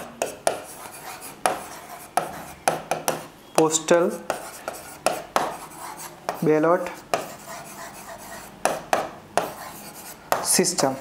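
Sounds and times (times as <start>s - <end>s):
pen tapping and scratching on whiteboard: 0.0s - 11.0s.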